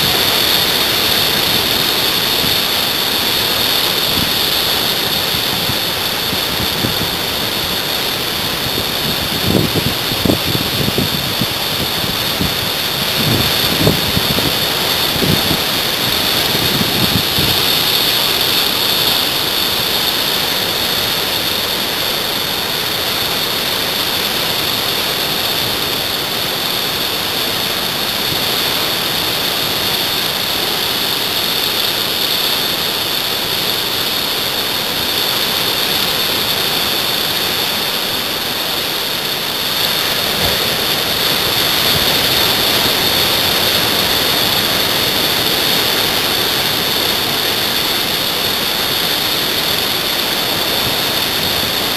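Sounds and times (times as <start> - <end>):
ocean surf rushing: 0.0 - 51.9.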